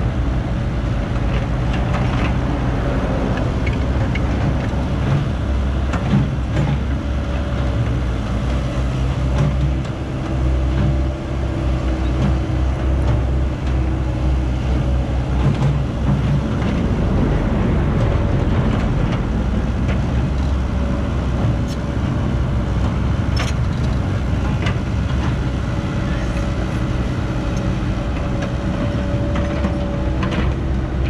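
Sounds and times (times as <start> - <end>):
excavator diesel engine droning: 0.0 - 31.0.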